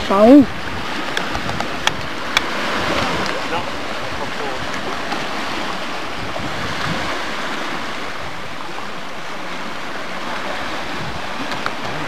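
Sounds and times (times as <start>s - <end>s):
open water rushing: 0.0s - 12.0s
wind: 0.0s - 12.0s.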